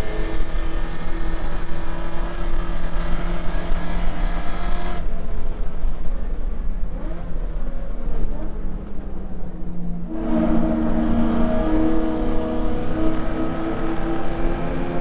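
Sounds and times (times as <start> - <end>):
car engine at racing pace: 0.0 - 15.0.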